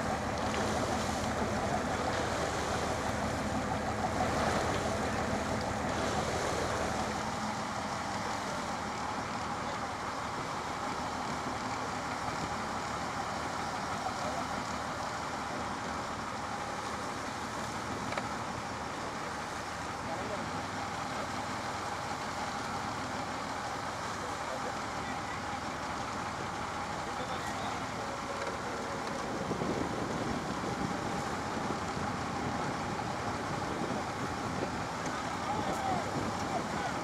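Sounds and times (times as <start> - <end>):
motorboat engine running: 0.0 - 37.0
sea wash: 0.0 - 37.0
wind: 0.0 - 37.0.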